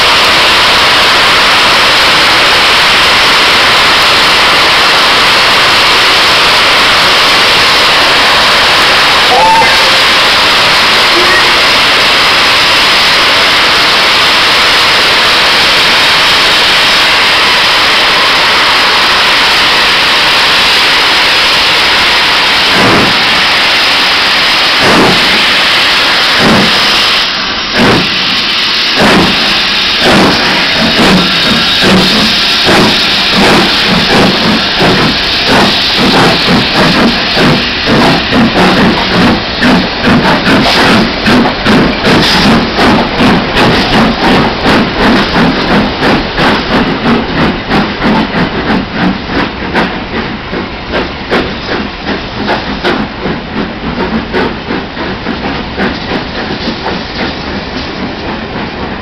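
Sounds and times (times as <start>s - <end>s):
loud steam hiss: 0.0s - 59.0s
steam locomotive exhaust beats: 0.0s - 59.0s.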